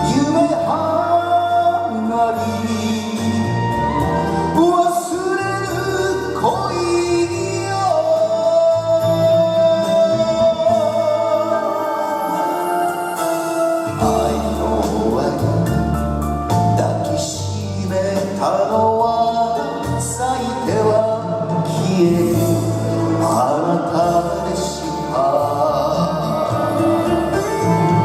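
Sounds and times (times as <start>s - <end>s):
ballad backing music: 0.0s - 28.0s.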